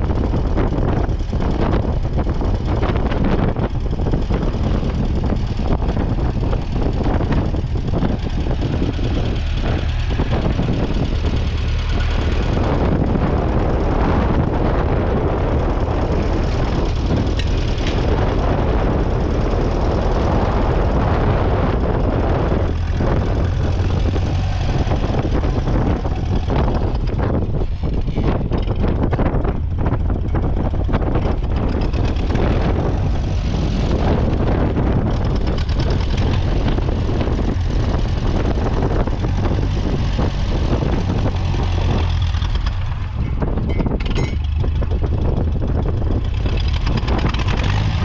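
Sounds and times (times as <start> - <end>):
tractor engine running steadily: 0.0 - 48.0.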